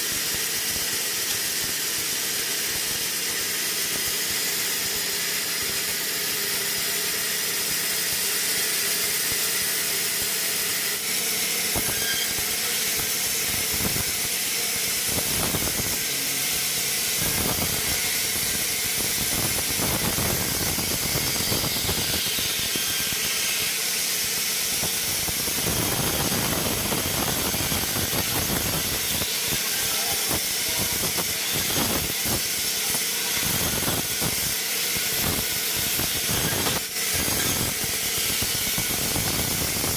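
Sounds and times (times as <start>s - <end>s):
rough uneven cutting noise: 0.0s - 39.9s
sawmill machinery hissing: 0.0s - 39.9s.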